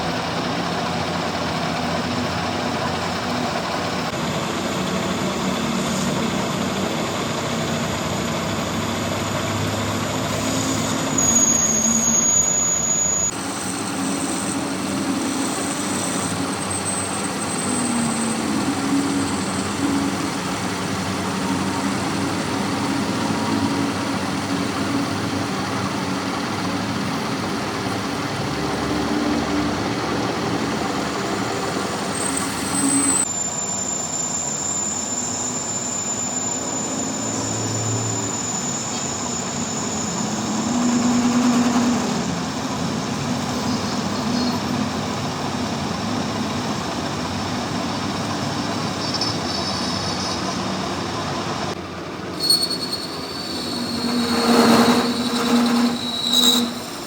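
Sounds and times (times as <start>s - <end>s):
workshop machinery drone: 0.0s - 33.3s, 36.6s - 57.0s.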